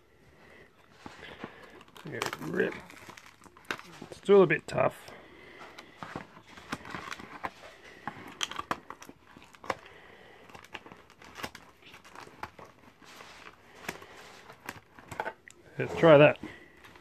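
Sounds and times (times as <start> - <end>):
packaging crinkling and rustling: 0.9 - 17.0.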